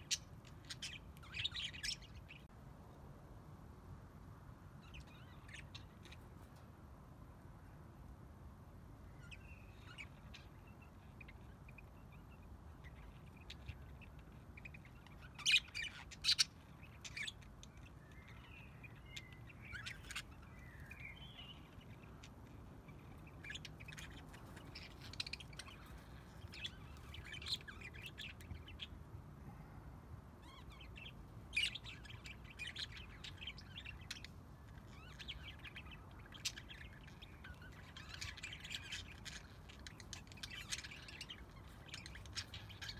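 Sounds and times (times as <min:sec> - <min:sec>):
budgerigars chirping and warbling: 0:00.0 - 0:02.5, 0:04.8 - 0:06.5, 0:09.2 - 0:29.0, 0:30.4 - 0:42.9.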